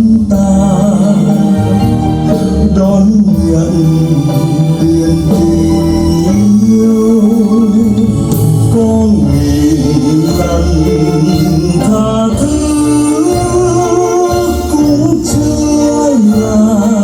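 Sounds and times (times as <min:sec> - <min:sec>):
slow melodic music with bass: 0:00.0 - 0:17.0.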